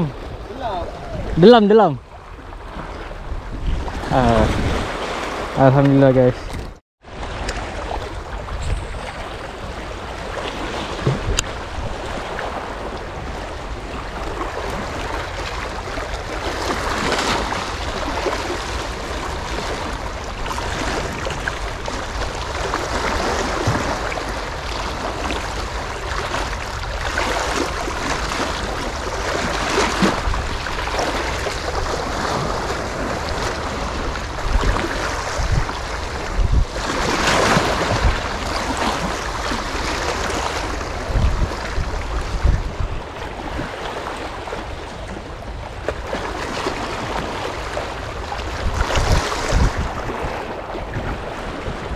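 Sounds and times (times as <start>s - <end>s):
sea waves splashing: 0.0s - 51.9s
wind on microphone: 0.0s - 51.9s.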